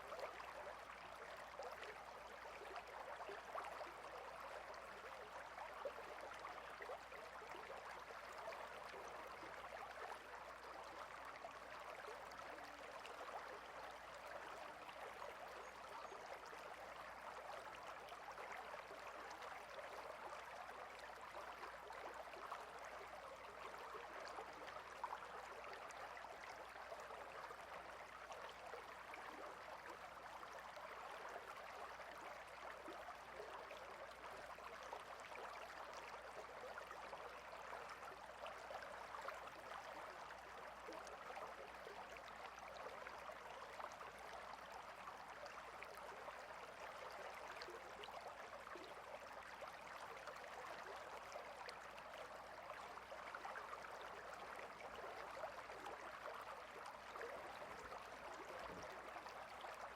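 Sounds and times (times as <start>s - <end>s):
water stream babbling: 0.0s - 59.9s.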